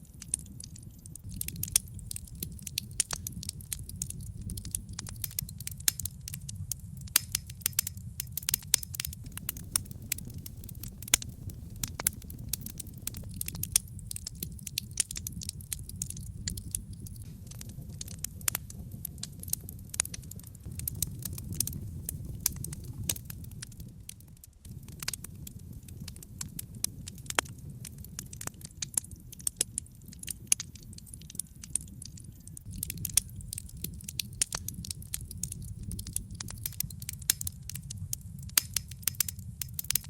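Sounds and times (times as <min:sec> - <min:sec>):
wood logs crackling and popping: 0:00.0 - 0:40.0
steady low rumble: 0:01.2 - 0:31.1, 0:32.6 - 0:40.0.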